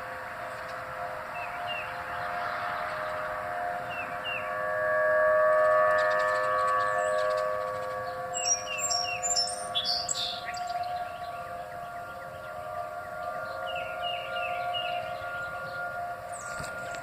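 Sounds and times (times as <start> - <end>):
birds chirping: 0.0 - 17.0
steady multi-pitch drone: 0.0 - 17.0.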